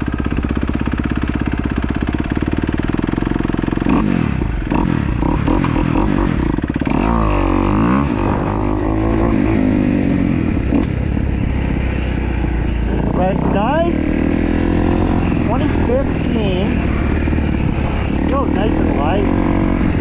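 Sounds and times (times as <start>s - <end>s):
dirt bike engine idling and revving: 0.0s - 20.0s.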